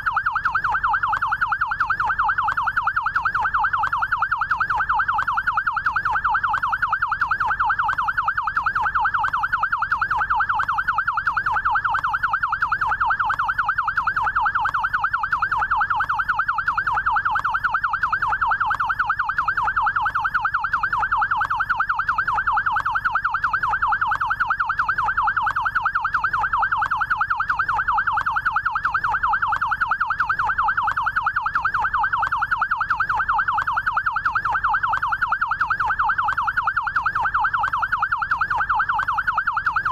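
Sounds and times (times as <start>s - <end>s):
electronic yelp siren: 0.0s - 39.9s.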